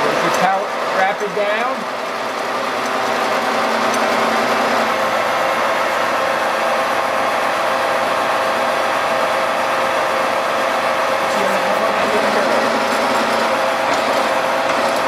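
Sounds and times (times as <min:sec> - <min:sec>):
milling machine whirring: 0:00.0 - 0:15.0.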